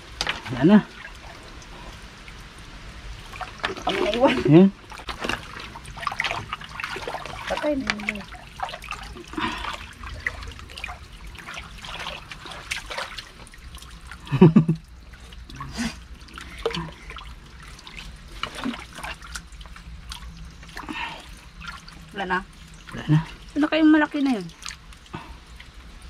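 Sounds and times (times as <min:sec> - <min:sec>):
water trickling: 0:00.0 - 0:26.0.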